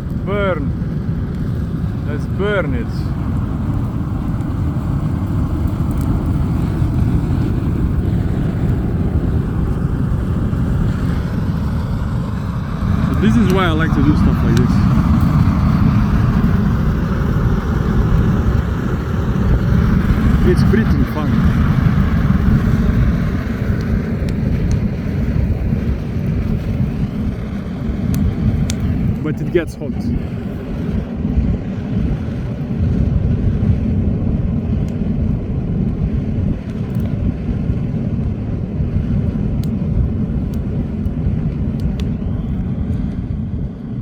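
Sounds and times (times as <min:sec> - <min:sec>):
fire roaring: 0:00.0 - 0:44.0
furnace ventilator rumble: 0:00.0 - 0:44.0.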